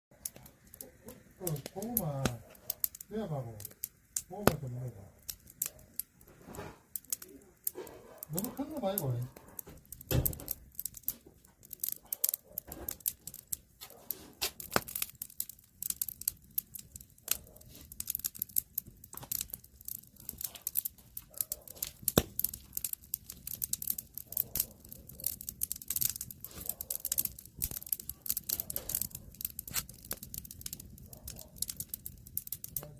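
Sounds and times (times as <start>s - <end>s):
wood fire crackling: 0.1s - 32.9s.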